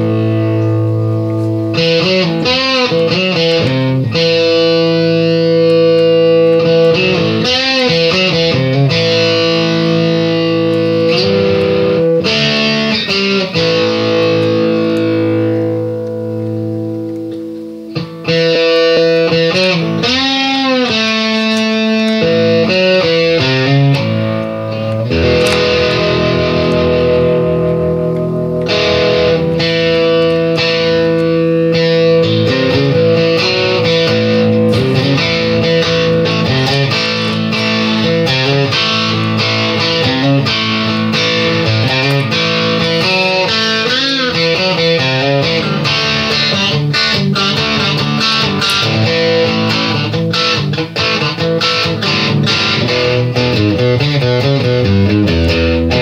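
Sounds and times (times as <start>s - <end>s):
electric guitar with effects: 0.0s - 56.0s.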